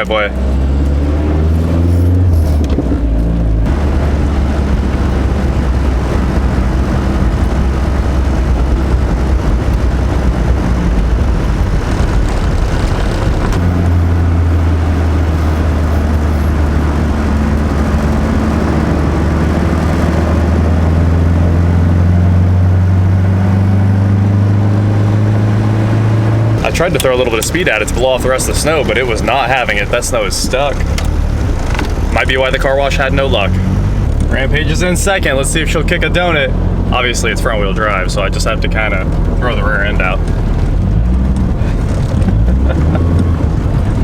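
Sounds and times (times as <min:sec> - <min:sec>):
pickup engine running: 0:00.0 - 0:44.0
road noise: 0:00.0 - 0:44.0.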